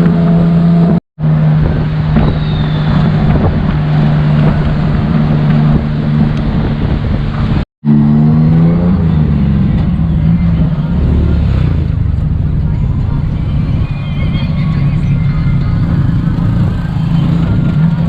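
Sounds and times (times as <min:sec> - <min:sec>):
engine running: 0:00.0 - 0:18.0
road noise: 0:00.0 - 0:18.0
wind: 0:00.0 - 0:18.0.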